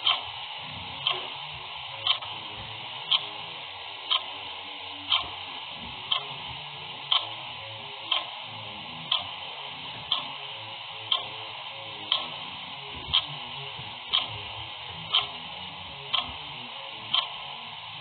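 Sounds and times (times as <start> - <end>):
clock ticking: 0.0 - 18.0
steady hiss: 0.0 - 18.0.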